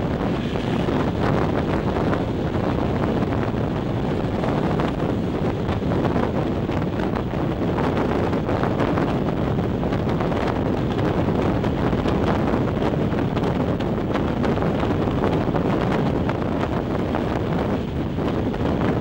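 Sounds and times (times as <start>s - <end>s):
train wheels on rails: 0.0s - 18.6s
wind buffeting microphone: 0.0s - 19.0s.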